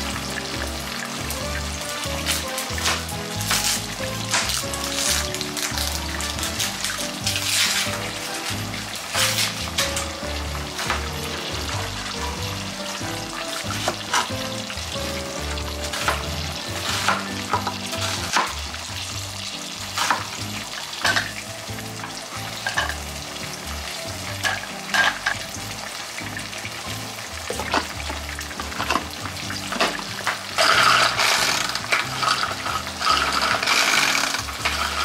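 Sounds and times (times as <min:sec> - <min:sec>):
background music: 0:00.0 - 0:35.0.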